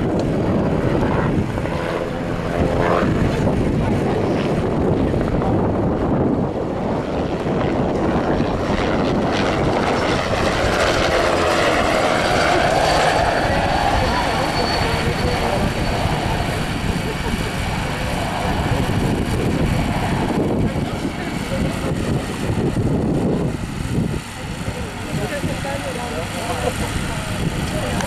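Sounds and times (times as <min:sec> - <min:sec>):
helicopter turbine and rotor: 0:00.0 - 0:28.0.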